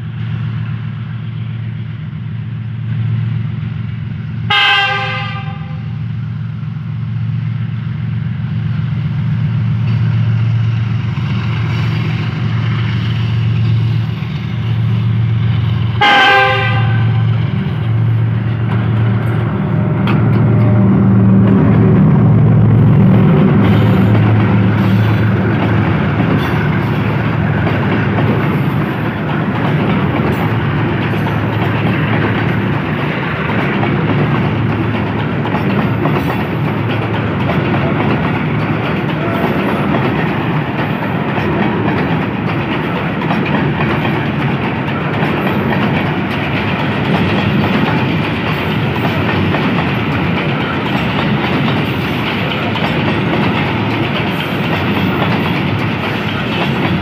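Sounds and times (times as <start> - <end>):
steel train wheels on rails: 0.0 - 57.0.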